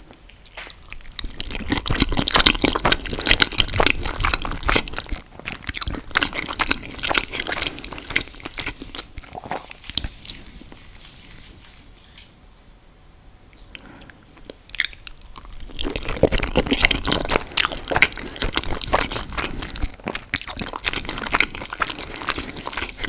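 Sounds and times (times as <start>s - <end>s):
spaghetti eating squelches: 0.4s - 12.2s, 13.5s - 23.0s.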